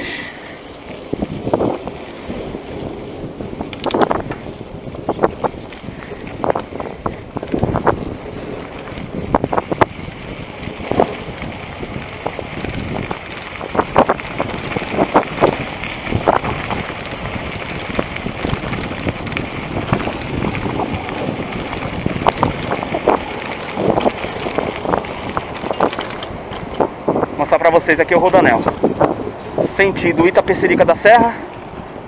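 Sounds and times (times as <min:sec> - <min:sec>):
bike tyres on loose gravel: 0:00.0 - 0:32.0
wind noise on microphone: 0:00.0 - 0:32.0
bike knocking and rattling: 0:00.8 - 0:32.0.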